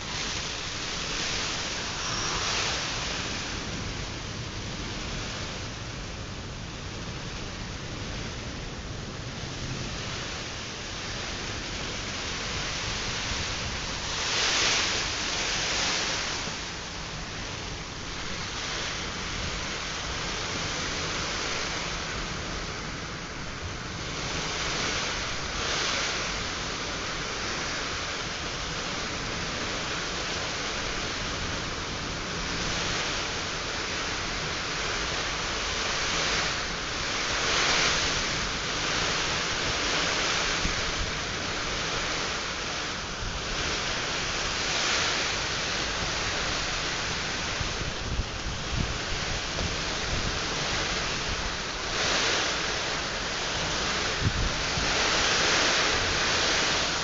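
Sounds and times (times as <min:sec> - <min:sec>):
gusting wind: 0:00.0 - 0:57.0
heavy rain on a plastic roof: 0:00.0 - 0:57.0.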